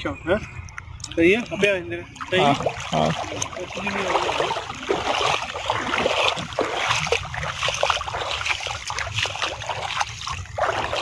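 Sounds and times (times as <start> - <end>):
river water splashing: 1.0 - 11.0.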